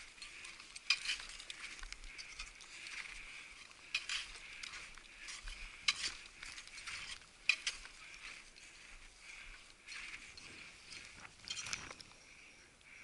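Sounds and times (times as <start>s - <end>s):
footsteps crunching in snow: 0.0s - 12.2s.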